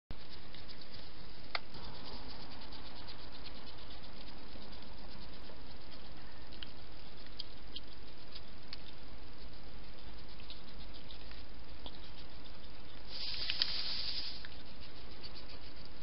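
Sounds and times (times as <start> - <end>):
hedgehog rustling on paving: 0.2 - 16.0
microphone hiss: 0.2 - 16.0.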